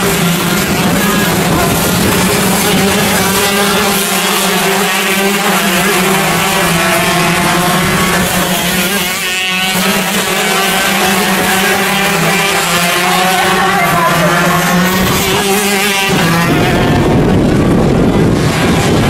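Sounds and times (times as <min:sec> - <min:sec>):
kart engines racing: 0:00.0 - 0:19.0
steady low drone: 0:00.0 - 0:19.0.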